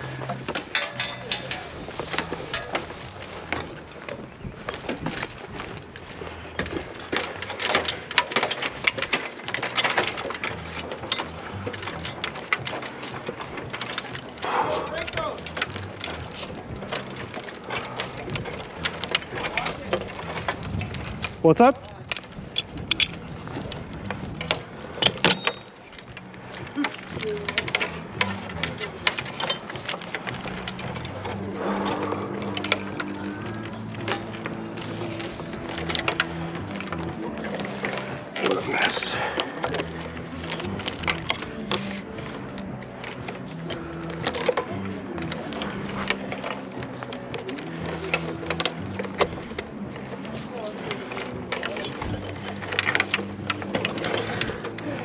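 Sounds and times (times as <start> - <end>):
mechanical clicks and rattles: 0.0 - 55.0.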